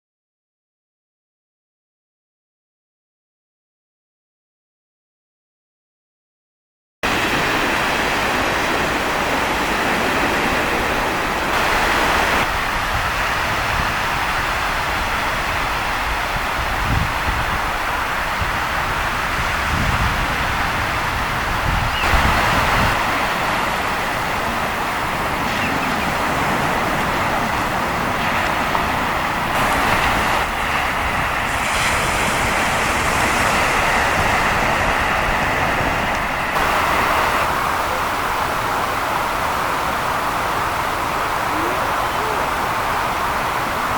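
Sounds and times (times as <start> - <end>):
sea surf rushing: 7.0 - 43.9
waves washing with bright hiss: 7.0 - 43.9
wind: 7.0 - 43.9.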